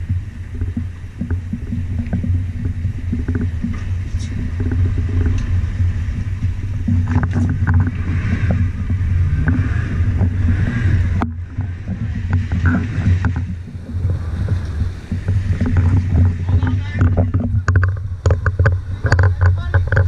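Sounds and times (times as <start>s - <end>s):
outboard motor humming: 0.0s - 20.0s
water splashing against hull: 0.0s - 20.0s
wind on microphone: 0.0s - 20.0s.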